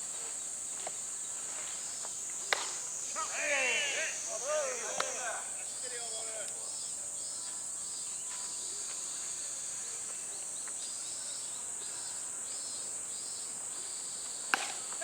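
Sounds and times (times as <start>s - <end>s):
insect chirps pulsing: 0.0s - 15.0s
insects droning: 0.0s - 15.0s.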